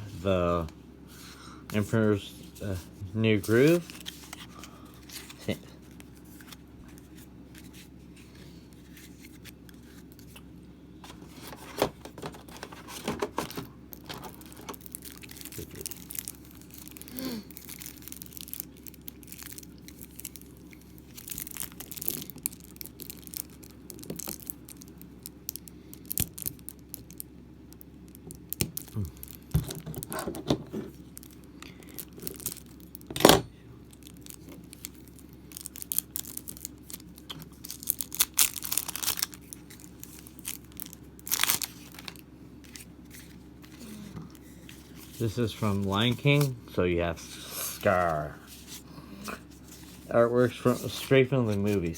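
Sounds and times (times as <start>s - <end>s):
plastic wrapping crinkling and tearing: 3.4s - 7.9s, 11.1s - 33.1s, 33.9s - 46.5s, 47.2s - 51.9s.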